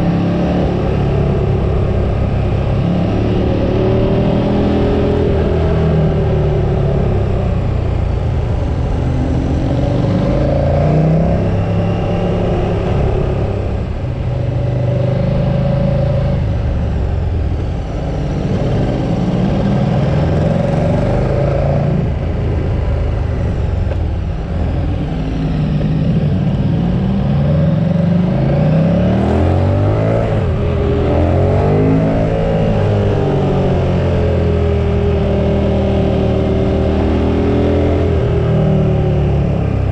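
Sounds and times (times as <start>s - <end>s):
motorcycle engine revving: 0.0s - 39.9s
rushing wind noise: 0.0s - 39.9s.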